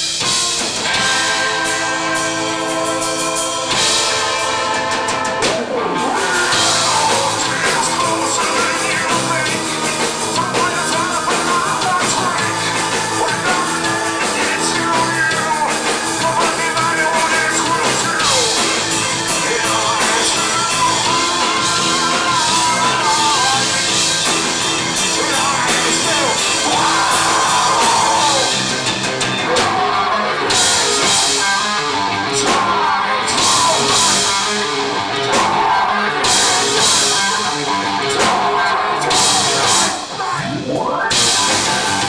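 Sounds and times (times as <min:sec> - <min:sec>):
live metal band playing: 0:00.0 - 0:42.0
person singing: 0:00.9 - 0:42.0.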